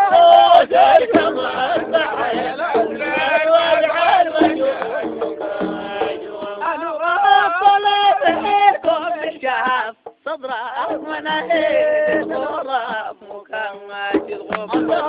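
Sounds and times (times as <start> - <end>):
man singing melismatic line: 0.0 - 15.0.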